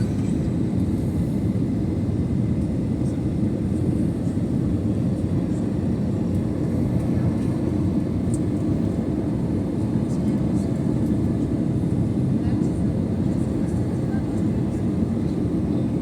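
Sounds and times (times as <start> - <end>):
airplane engine roar in cabin: 0.0 - 16.0.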